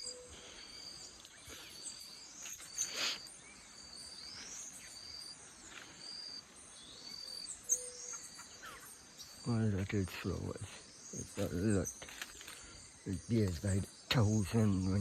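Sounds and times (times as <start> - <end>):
birds whistling calls: 0.0 - 15.0.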